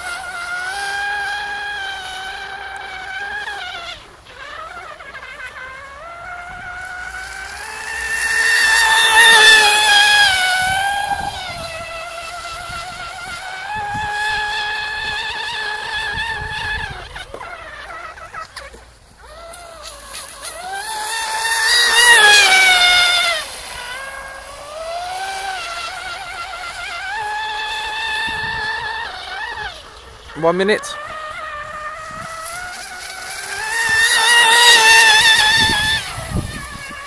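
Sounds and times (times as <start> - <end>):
model boat motor whining: 0.0 - 37.0.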